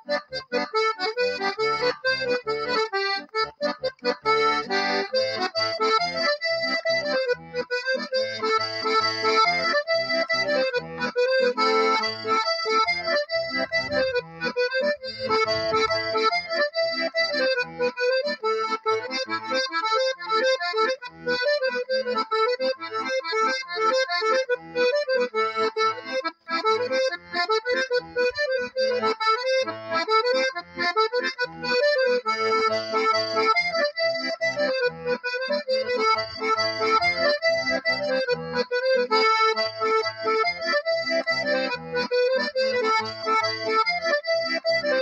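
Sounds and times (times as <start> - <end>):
button accordion playing: 0.0 - 45.0.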